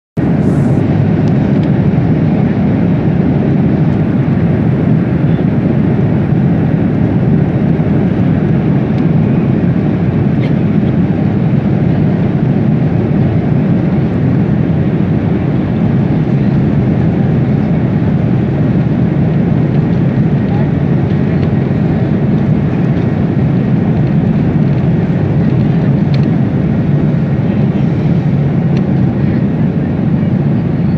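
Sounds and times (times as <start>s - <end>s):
jet engines roaring: 0.2s - 30.9s.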